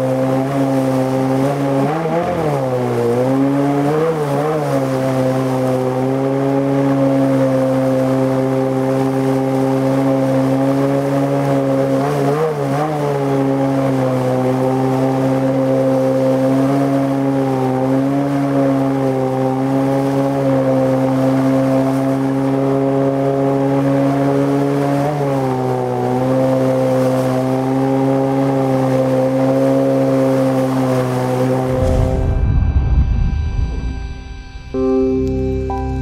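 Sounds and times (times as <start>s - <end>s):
outboard motor running at high revs: 0.0s - 36.0s.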